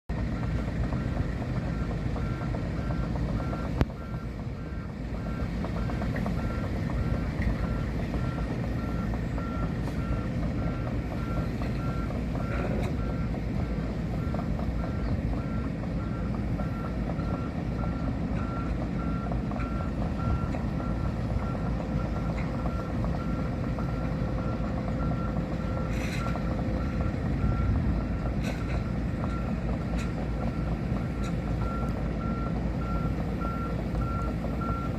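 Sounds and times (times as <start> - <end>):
diesel engine rumbling: 0.1 - 34.9.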